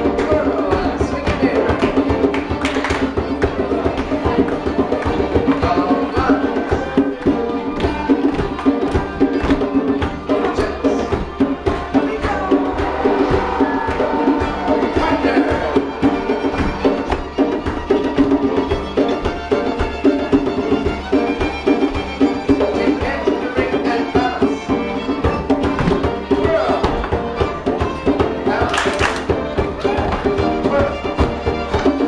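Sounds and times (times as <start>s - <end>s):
folk dance music: 0.0s - 32.0s
sharp percussive knocks: 0.0s - 32.0s.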